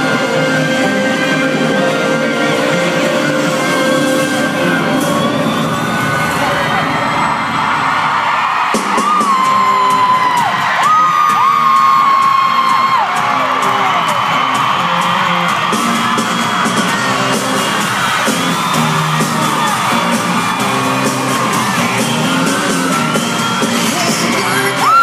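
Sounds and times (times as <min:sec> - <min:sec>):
pop-country concert music: 0:00.0 - 0:07.4, 0:08.2 - 0:25.0
crowd yelling and whooping: 0:00.0 - 0:25.0.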